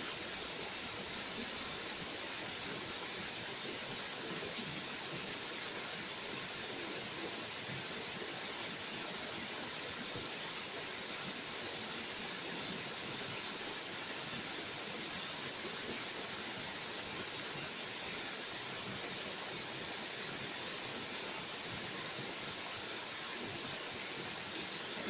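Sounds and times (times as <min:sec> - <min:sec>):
waterfall rushing over rocks: 0:00.0 - 0:25.0.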